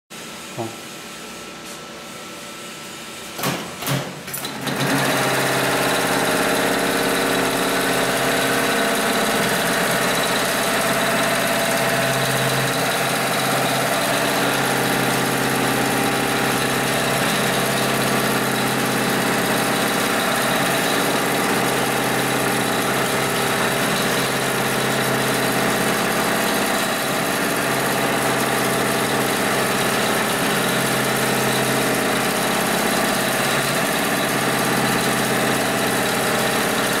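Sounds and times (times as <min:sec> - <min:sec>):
sewing machine stitching: 0:04.3 - 0:37.0.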